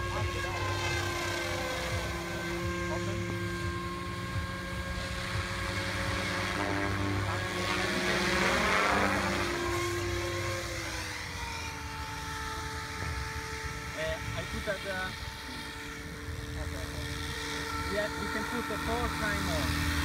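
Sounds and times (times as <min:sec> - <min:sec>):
rc helicopter motor whine: 0:00.0 - 0:20.0
rotor whooshing: 0:00.0 - 0:20.0.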